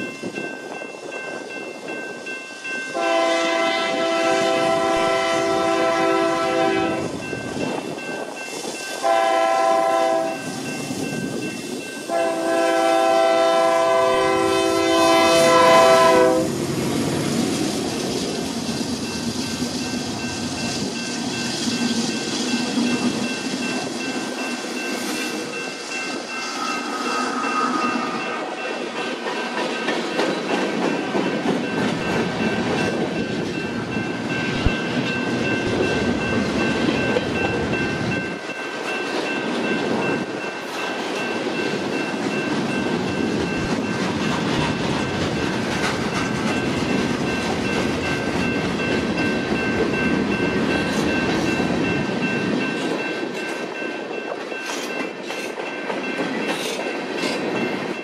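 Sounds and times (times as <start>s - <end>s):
diesel locomotive passing: 0.0s - 58.0s.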